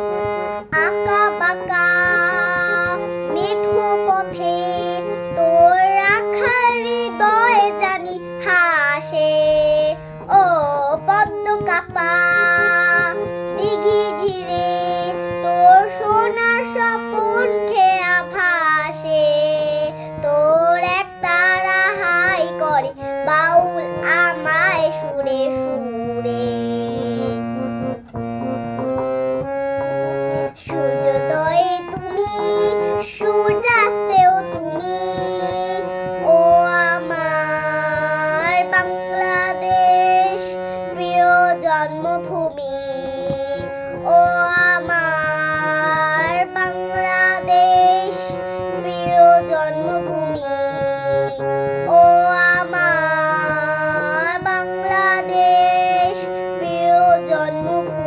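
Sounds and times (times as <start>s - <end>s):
girl singing: 0.0s - 58.0s
keyboard accompaniment: 0.0s - 58.0s.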